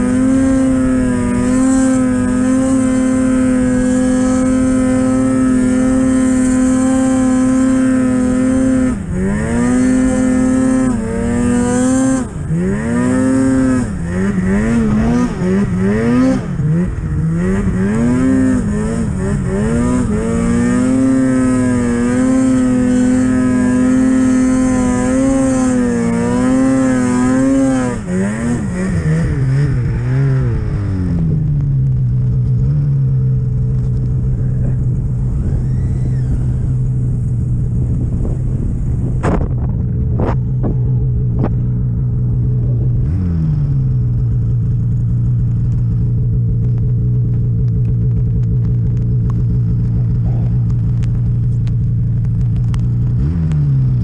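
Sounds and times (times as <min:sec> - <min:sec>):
snowmobile engine revving: 0:00.0 - 0:31.5, 0:32.4 - 0:46.5.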